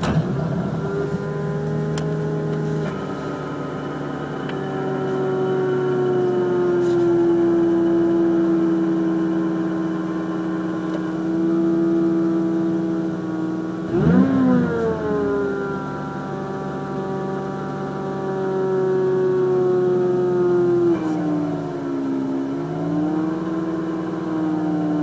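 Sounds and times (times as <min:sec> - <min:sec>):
rotary engine idling with whine: 0:00.0 - 0:25.0.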